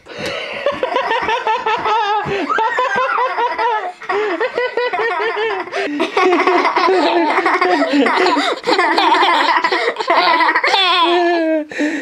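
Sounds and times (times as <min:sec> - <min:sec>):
high-pitched laughing: 0:00.8 - 0:11.7.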